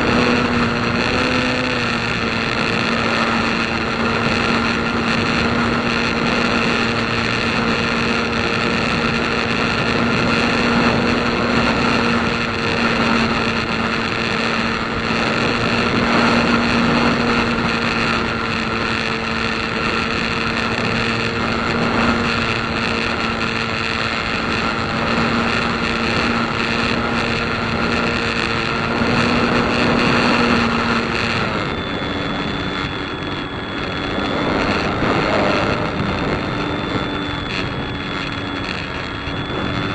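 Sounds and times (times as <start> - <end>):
engine drone: 0.0 - 39.9
wind noise on microphone: 0.0 - 39.9.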